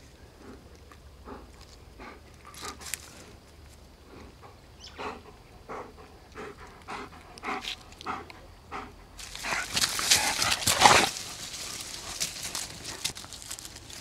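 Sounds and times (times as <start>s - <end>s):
dogs panting and huffing: 0.3s - 3.4s, 4.0s - 13.3s.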